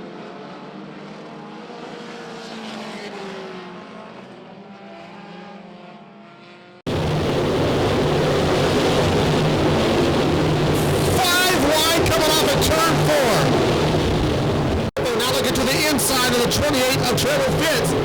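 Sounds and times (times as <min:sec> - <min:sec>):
distant race car engines: 0:00.0 - 0:18.0
loud engine noise close by: 0:00.0 - 0:18.0.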